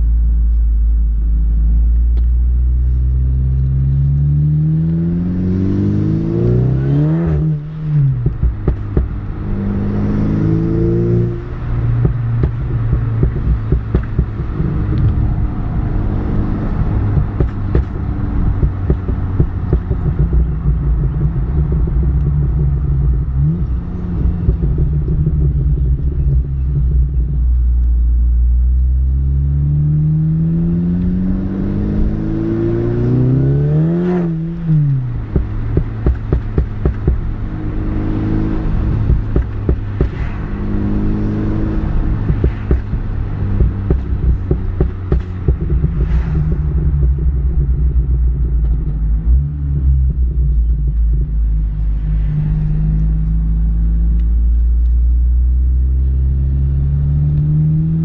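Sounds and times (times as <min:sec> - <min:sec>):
exhaust pops and crackles: 0:00.0 - 0:58.0
car engine revving: 0:02.8 - 0:27.9, 0:28.5 - 0:58.0.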